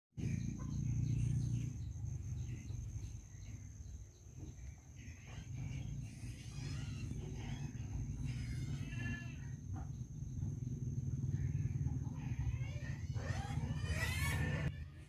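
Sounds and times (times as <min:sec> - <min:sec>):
bird chirps: 0:00.2 - 0:14.8
insect high drone: 0:00.2 - 0:15.0.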